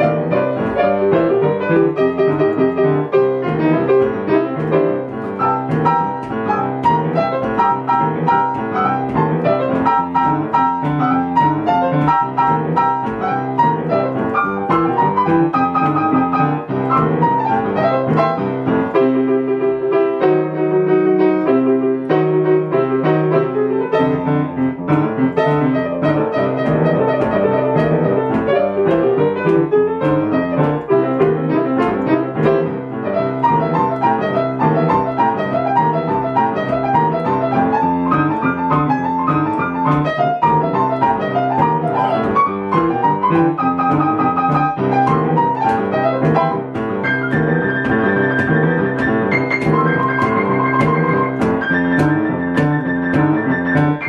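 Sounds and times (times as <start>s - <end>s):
boogie-woogie piano: 0.0s - 54.0s.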